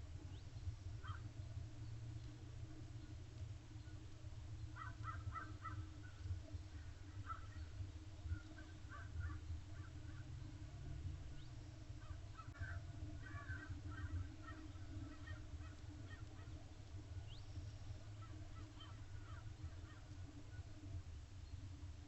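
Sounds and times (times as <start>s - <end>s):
faint birds calling: 0.0s - 22.0s
low hum: 0.0s - 22.0s.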